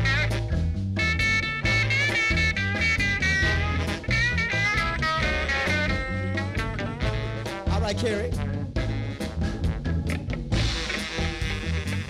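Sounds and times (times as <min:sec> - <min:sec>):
drums: 0:00.0 - 0:12.0
electric bass: 0:00.0 - 0:12.0
electric guitar: 0:00.0 - 0:12.0
horn line trombone and saxophone: 0:00.0 - 0:12.0.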